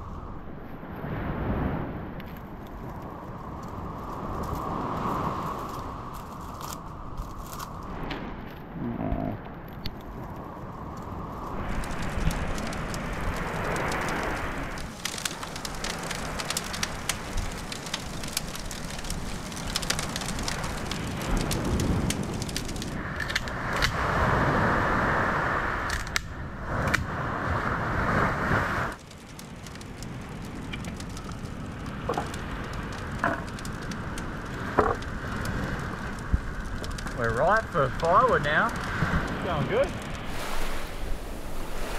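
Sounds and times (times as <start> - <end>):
campfire crackling: 0.0 - 41.9
surf washing: 1.0 - 6.5, 11.0 - 41.9.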